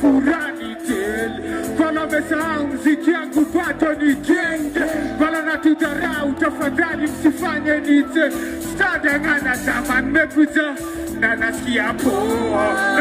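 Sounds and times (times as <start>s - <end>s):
live band music: 0.0s - 13.0s
man singing: 0.0s - 13.0s.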